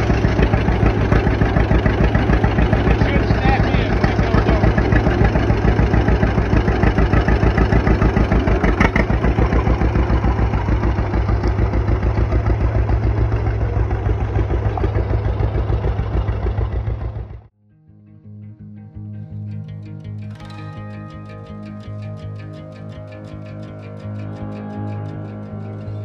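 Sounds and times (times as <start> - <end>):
tractor engine popping: 0.0 - 17.5, 19.5 - 26.0.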